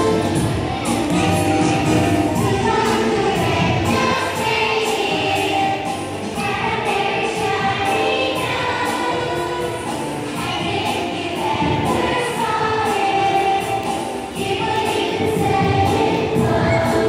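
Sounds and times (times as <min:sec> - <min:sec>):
children's choir singing: 0:00.0 - 0:17.0
musical accompaniment with steady beat: 0:00.0 - 0:17.0.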